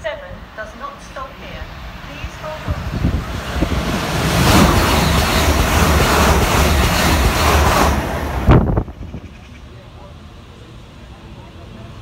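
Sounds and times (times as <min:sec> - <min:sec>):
electric train passing: 0:00.0 - 0:12.0
wheels rushing on rail: 0:00.4 - 0:12.0.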